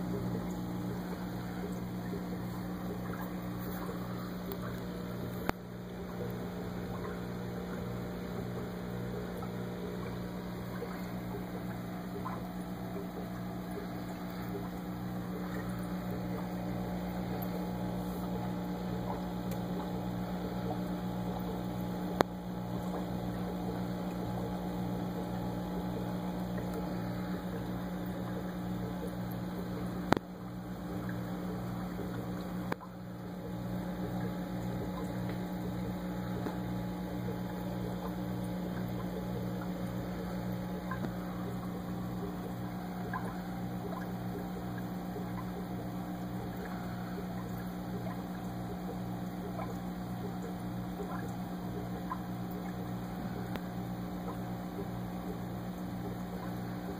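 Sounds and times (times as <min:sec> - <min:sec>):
air bubbling in water: 0:00.0 - 0:56.9
aquarium air pump humming: 0:00.0 - 0:56.9.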